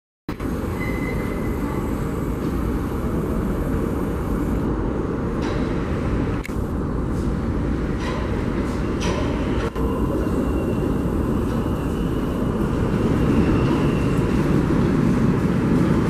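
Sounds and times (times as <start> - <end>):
subway train wheels rumbling: 0.3 - 16.0.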